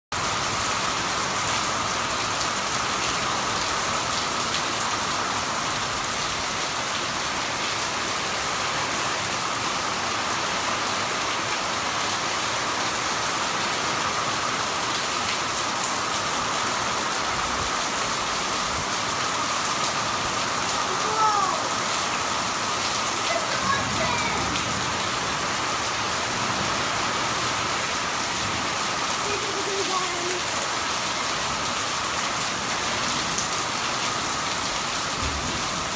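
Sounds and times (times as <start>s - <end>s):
heavy rain falling: 0.1s - 35.9s.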